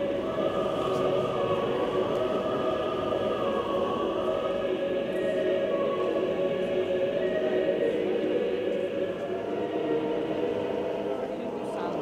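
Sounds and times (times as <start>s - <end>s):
choir singing long chords: 0.0s - 12.0s.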